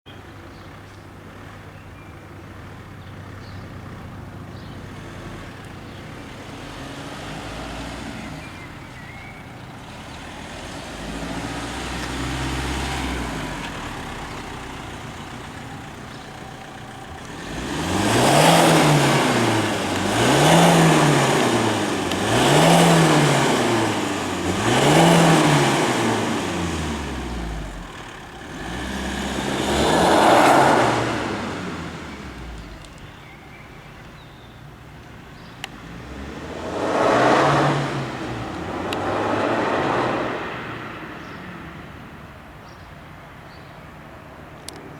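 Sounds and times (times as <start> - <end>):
diesel car engine idling and revving: 0.0 - 44.9.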